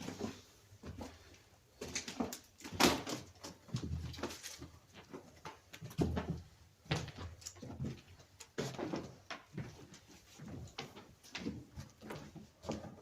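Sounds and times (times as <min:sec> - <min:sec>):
footsteps on tunnel floor: 0:00.0 - 0:13.0.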